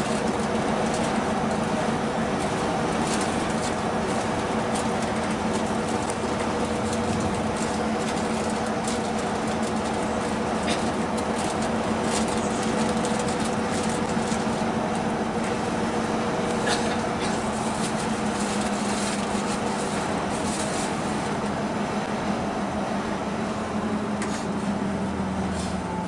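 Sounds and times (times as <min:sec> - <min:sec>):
engine and road noise: 0:00.0 - 0:26.0.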